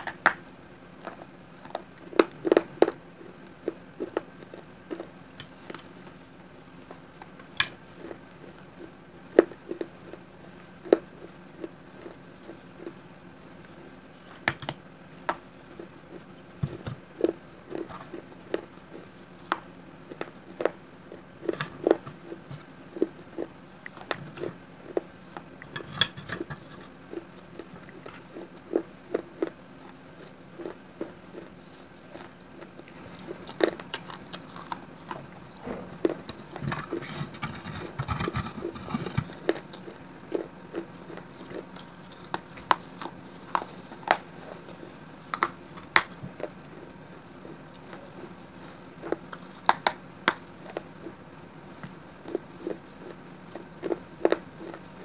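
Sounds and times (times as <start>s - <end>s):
clay pot pieces being chewed: 0.0s - 55.0s.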